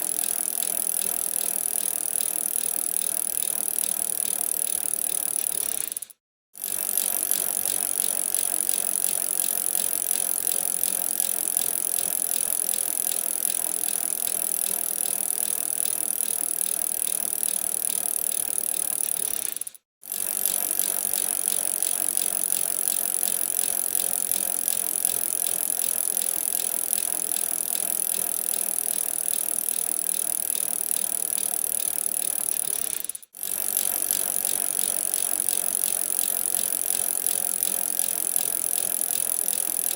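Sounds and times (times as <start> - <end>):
bicycle rattling: 0.0 - 39.9.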